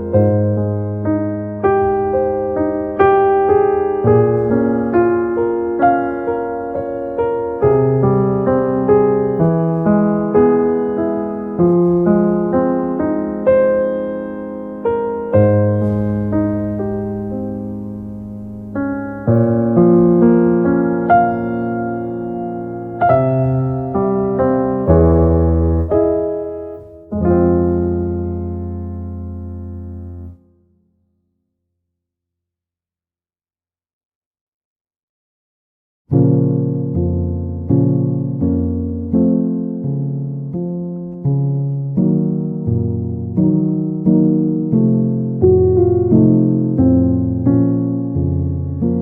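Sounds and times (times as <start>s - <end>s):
gentle solo piano: 0.0s - 30.5s, 36.1s - 49.0s.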